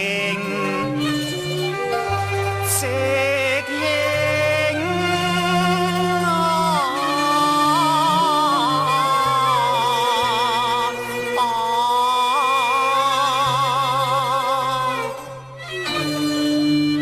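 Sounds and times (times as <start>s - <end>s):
opera singing with vibrato: 0.0s - 15.3s.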